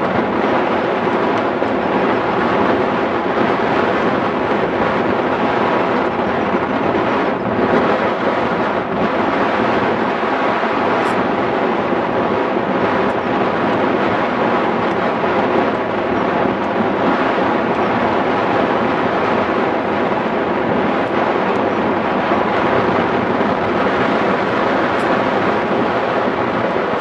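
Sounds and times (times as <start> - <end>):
airflow rushing over microphone: 0.0 - 27.0.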